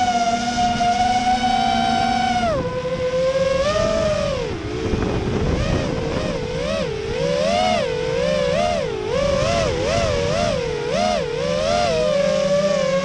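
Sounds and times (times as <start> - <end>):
low wind rumble: 0.0 - 13.0
quadcopter motors whining: 0.0 - 13.0.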